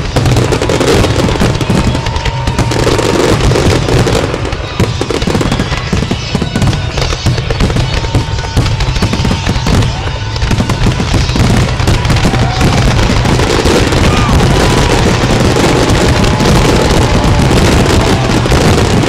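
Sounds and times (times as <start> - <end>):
fireworks bursts and crackle: 0.0 - 19.0
wind buffeting microphone: 0.0 - 19.0.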